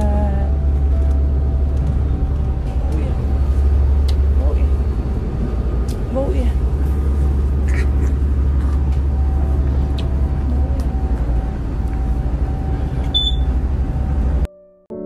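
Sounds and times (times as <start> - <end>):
vehicle engine rumble: 0.0 - 14.5.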